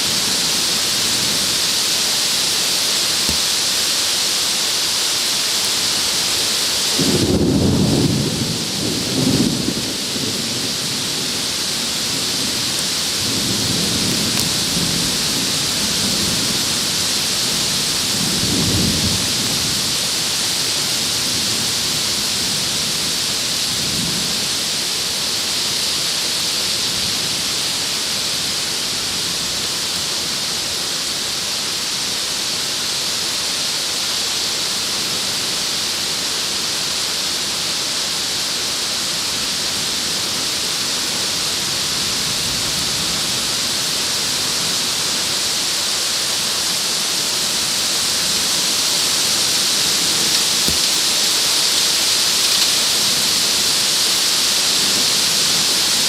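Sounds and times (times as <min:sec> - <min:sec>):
heavy rain and storm wind: 0:00.0 - 0:56.0.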